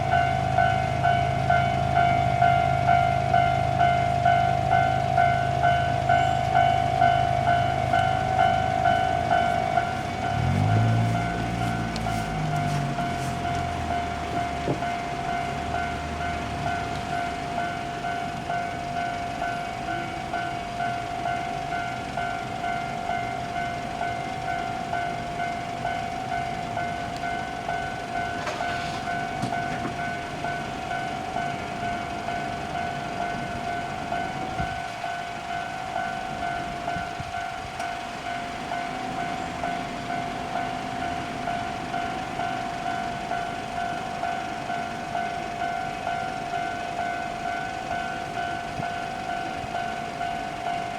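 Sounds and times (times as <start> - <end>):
level crossing warning bell: 0.0 - 50.9
low rumble of passing traffic: 0.0 - 50.9.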